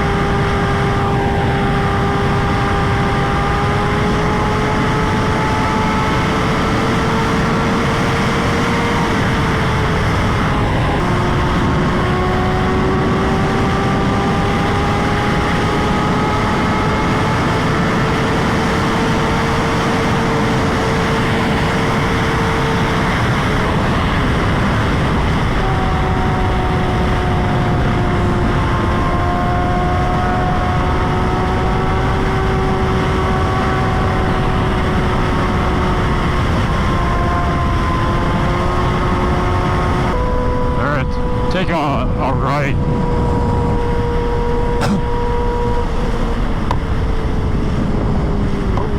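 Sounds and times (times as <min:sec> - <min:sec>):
motorcycle engine cruising: 0:00.0 - 0:48.9
wind rush on microphone: 0:00.0 - 0:48.9.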